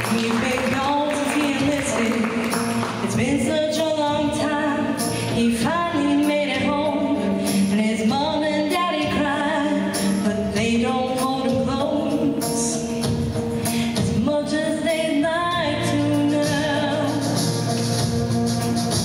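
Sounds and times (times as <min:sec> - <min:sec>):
instrumental accompaniment with percussion: 0:00.0 - 0:08.4, 0:09.0 - 0:14.5, 0:15.5 - 0:19.0
woman singing into a microphone: 0:00.0 - 0:17.8.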